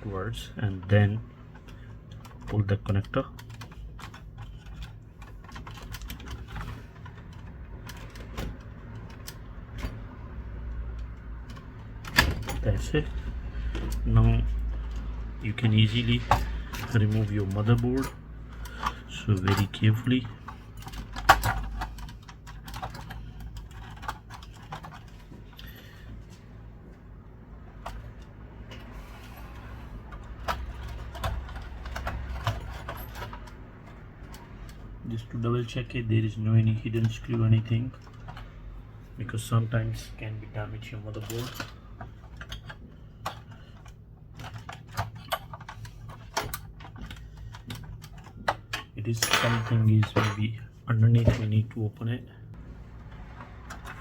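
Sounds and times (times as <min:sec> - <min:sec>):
clicks and knocks of console parts: 0:00.0 - 0:38.7, 0:39.7 - 0:50.5, 0:52.9 - 0:54.0.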